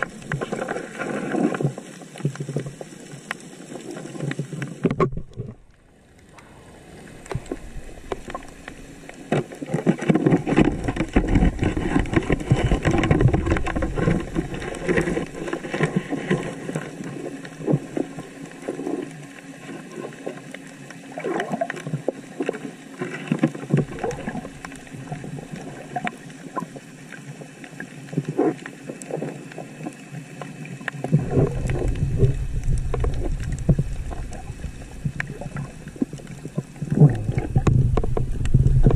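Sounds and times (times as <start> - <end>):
underwater rushing and crackling: 0.0 - 38.9.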